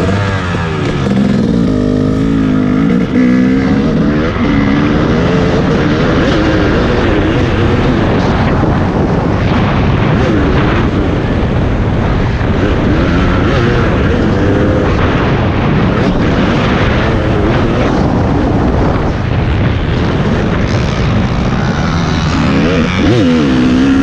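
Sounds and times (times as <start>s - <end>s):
dirt bike engine revving: 0.0s - 24.0s
wind rumble on microphone: 0.0s - 24.0s.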